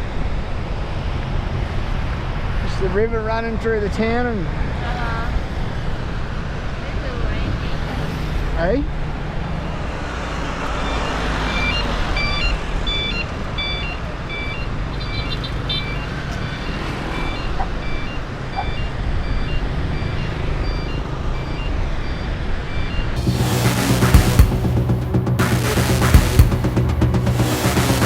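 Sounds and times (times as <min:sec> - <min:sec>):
wind and road rumble: 0:00.0 - 0:23.4.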